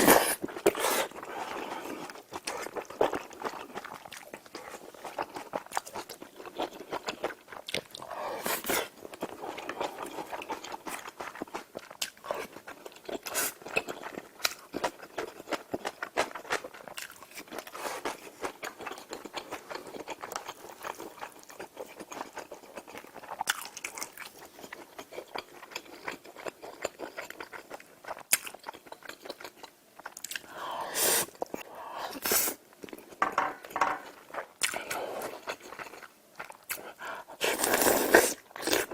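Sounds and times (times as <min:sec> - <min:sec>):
person chewing and crunching food: 0:00.0 - 0:38.9.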